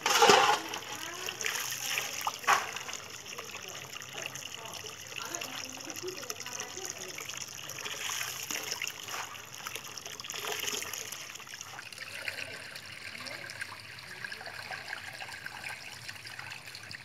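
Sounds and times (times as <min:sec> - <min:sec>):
hose water pouring into basin: 0:00.0 - 0:17.0.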